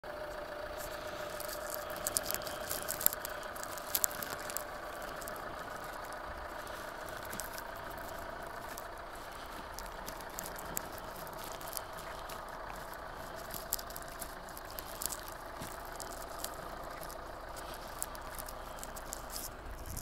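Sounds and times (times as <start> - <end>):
car engine idling: 0.0 - 20.0
light ticks and clicks: 0.2 - 20.0.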